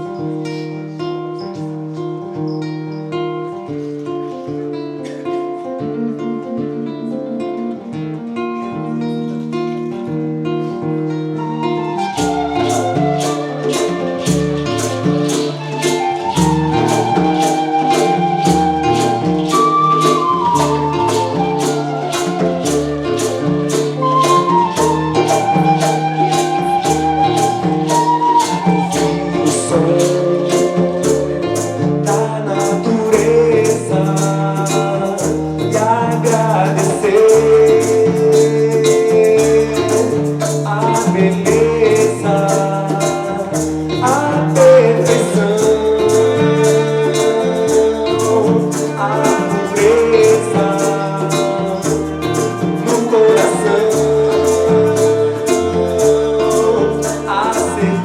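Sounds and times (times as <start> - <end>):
bass guitar: 0.0 - 58.0
hand percussion beat: 0.0 - 58.0
plucked guitar: 0.0 - 58.0
long-held melody line: 11.0 - 58.0.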